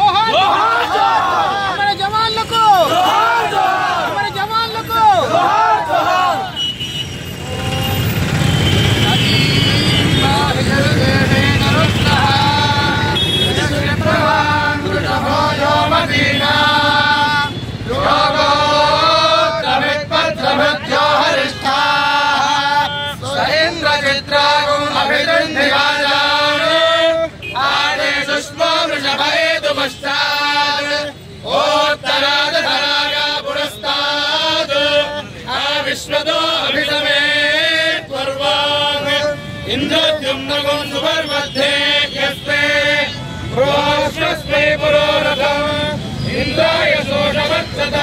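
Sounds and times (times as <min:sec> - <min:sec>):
men chanting together: 0:00.0 - 0:01.8, 0:02.8 - 0:04.2, 0:05.1 - 0:06.5, 0:10.2 - 0:48.0.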